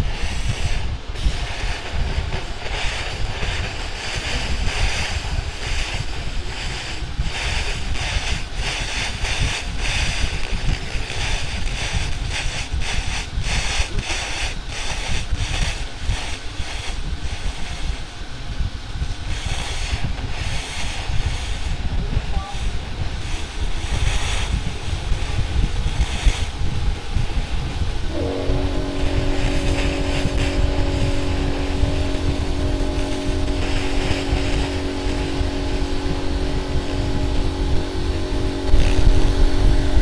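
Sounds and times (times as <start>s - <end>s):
laser cleaner crackling hiss: 0.0s - 40.0s
steady low rumble: 0.0s - 40.0s.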